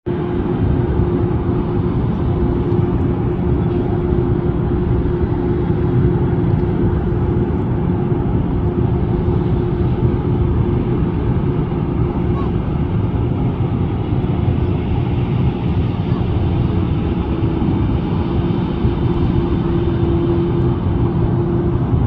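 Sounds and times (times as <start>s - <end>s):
engine running steadily: 0.1s - 22.0s.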